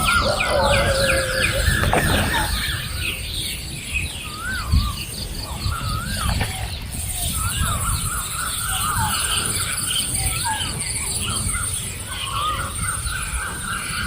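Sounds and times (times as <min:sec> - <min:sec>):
birds chirping: 0:00.0 - 0:14.0
wavering bird call: 0:00.0 - 0:14.0.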